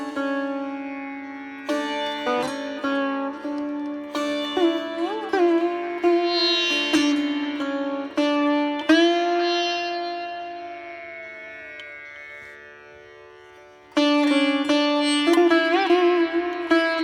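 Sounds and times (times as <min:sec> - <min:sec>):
plucked string instrument music: 0:00.0 - 0:12.5, 0:13.9 - 0:17.0.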